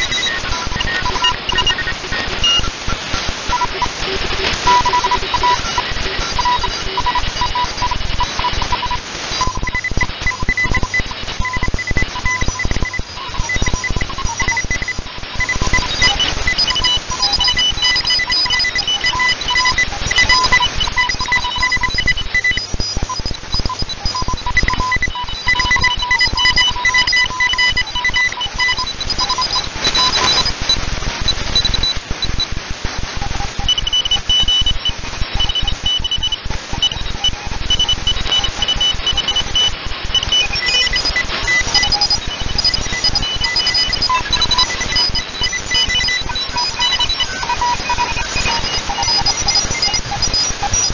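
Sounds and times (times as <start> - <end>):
morse code beeping tones: 0.0 - 2.7, 3.5 - 30.6, 33.2 - 50.9
radio static hiss: 0.0 - 50.9.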